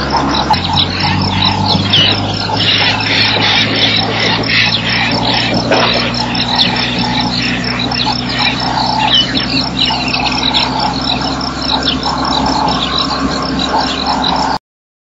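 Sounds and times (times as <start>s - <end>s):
high pulsing tone: 0.0s - 14.6s
small birds chirping: 0.0s - 14.6s.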